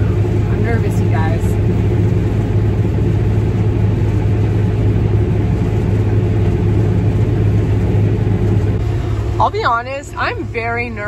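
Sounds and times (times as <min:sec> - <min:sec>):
combine harvester engine hum: 0:00.0 - 0:11.0
threshing machinery running: 0:00.0 - 0:11.0.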